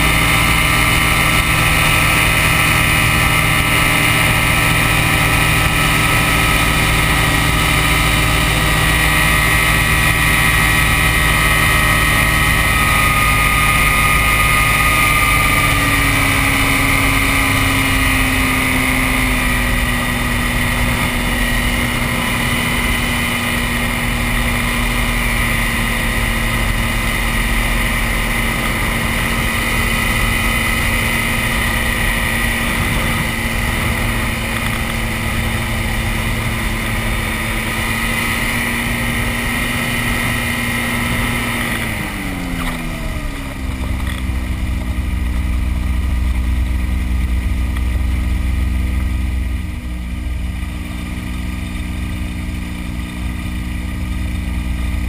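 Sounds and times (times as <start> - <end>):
aircraft engine and propeller: 0.0 - 55.0.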